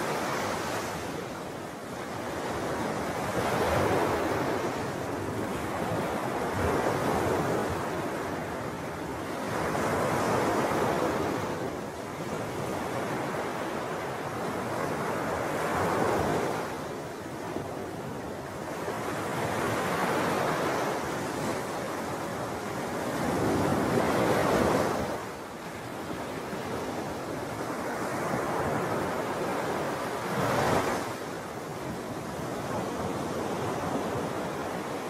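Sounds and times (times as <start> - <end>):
wind: 0.0 - 35.0.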